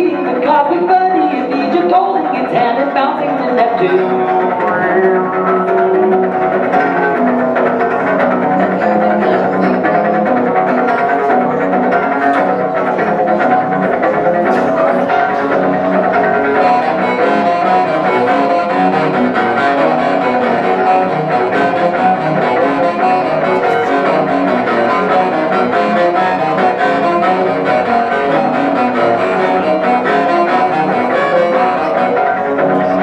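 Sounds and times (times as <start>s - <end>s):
instrumental music: 0.0s - 33.0s.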